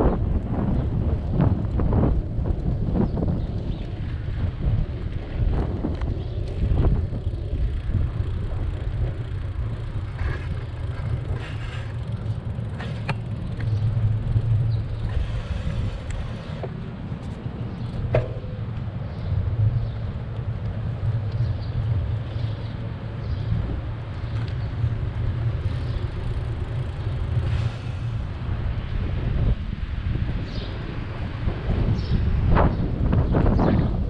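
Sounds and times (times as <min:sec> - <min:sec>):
bicycle tyre rumble: 0:00.0 - 0:34.0
wind noise on microphone: 0:00.0 - 0:34.0.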